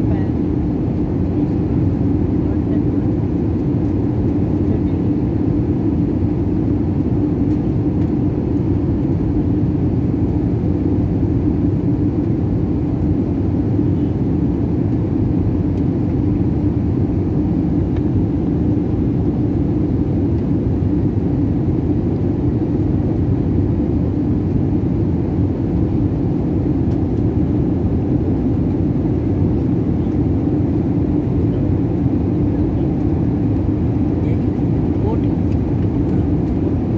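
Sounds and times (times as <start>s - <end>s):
jet engine cabin rumble: 0.0s - 36.9s.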